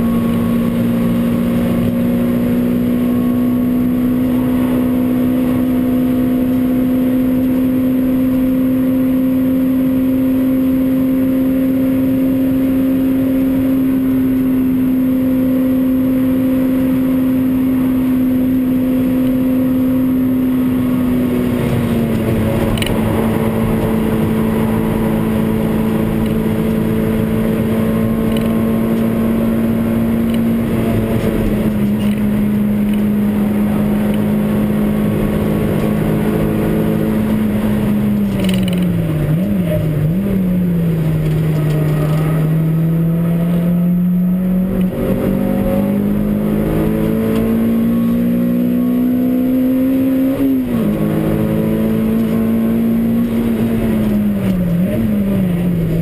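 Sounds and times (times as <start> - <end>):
car engine at high revs: 0.0 - 56.0
road and wind rush: 0.0 - 56.0.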